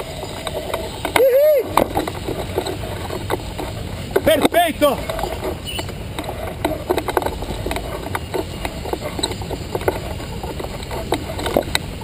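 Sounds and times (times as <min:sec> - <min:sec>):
low wind rumble: 0:00.0 - 0:12.0.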